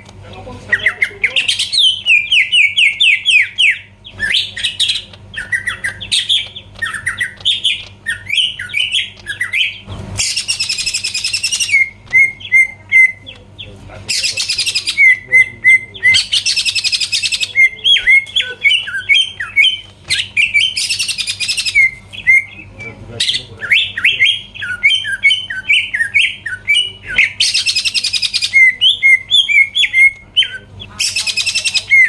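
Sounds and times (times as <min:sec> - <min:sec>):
bird singing trills and whistles: 0:00.7 - 0:32.0.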